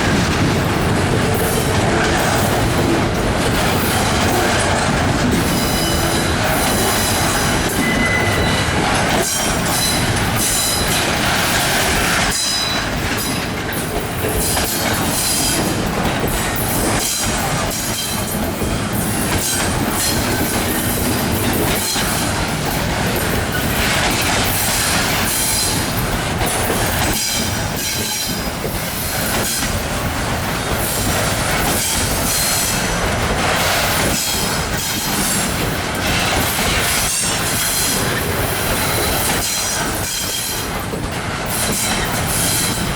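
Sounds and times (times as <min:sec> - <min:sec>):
rail joint clacks: 0:00.0 - 0:42.9
train wheels rumbling on rail: 0:00.0 - 0:42.9.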